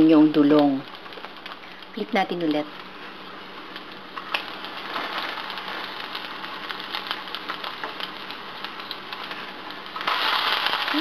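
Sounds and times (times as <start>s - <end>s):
patties sizzling in hot oil: 0.0s - 11.0s.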